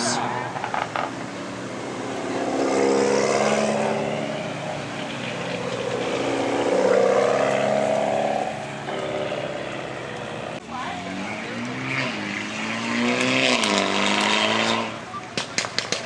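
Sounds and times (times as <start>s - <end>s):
cars driving past slowly: 0.0s - 16.0s.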